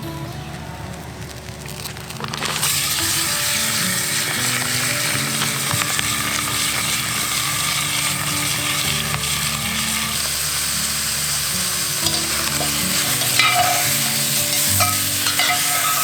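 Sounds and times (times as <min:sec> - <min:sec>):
background music: 0:00.0 - 0:16.0
meat sizzling in a pot: 0:00.0 - 0:16.0.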